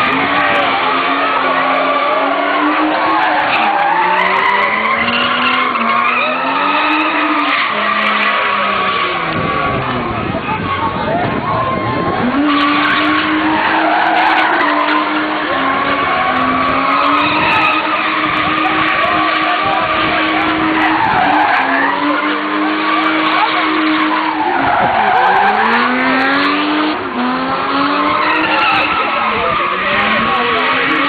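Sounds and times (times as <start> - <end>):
tyres squealing: 0.0 - 9.7, 11.5 - 31.0
car engine revving high: 0.0 - 31.0.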